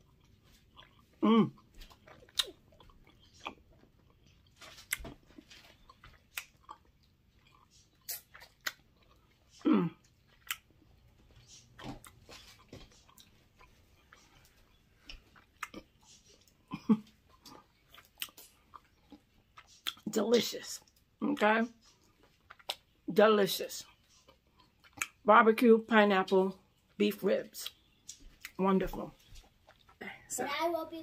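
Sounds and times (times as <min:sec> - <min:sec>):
person chewing with wet smacks: 0:00.0 - 0:23.2, 0:23.8 - 0:25.3, 0:26.7 - 0:30.0.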